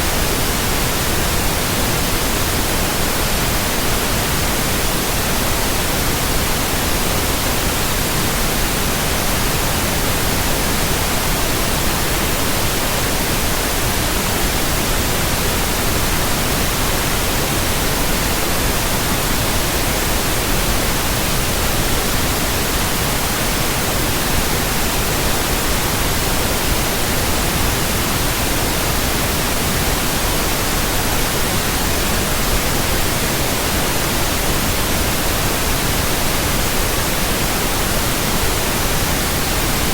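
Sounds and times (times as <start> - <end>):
electronic white noise hiss: 0.0 - 39.9.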